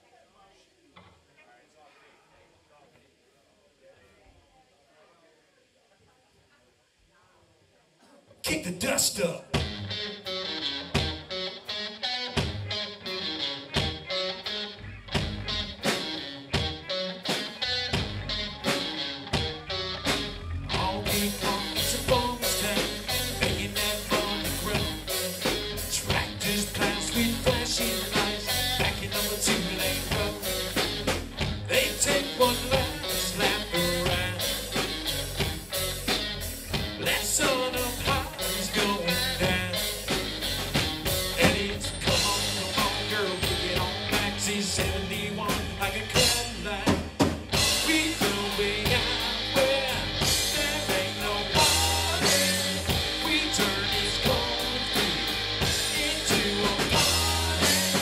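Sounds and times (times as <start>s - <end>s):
country-rock band playing: 8.5s - 58.0s.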